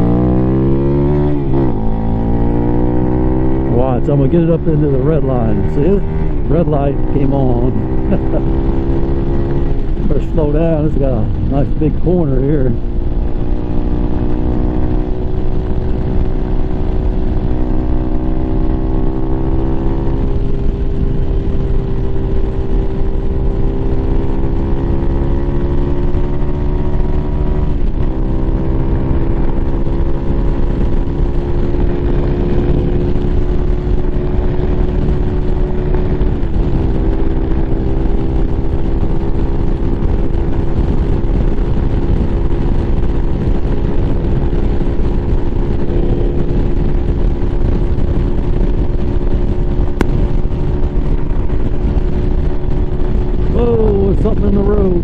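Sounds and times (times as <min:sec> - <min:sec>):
motorcycle engine cruising: 0:00.0 - 0:55.0
wind rush: 0:00.0 - 0:55.0.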